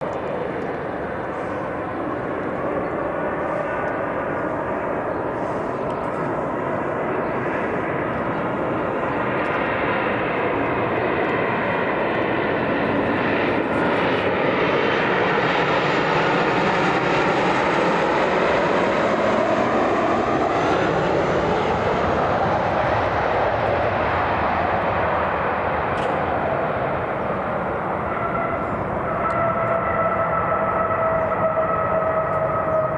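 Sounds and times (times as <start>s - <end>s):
jet airliner engines rushing: 0.0s - 32.9s.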